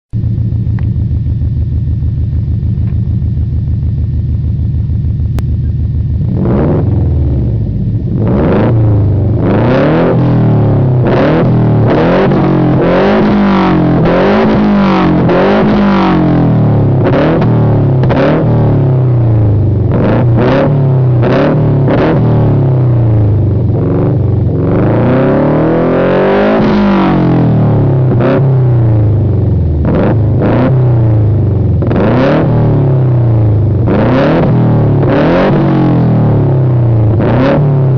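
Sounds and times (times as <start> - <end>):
car engine idling and revving: 0.1 - 37.9.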